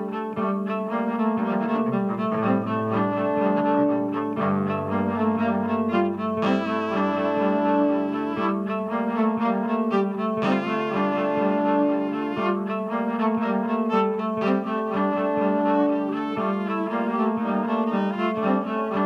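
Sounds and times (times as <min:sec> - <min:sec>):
bowed cello: 0:00.0 - 0:19.0.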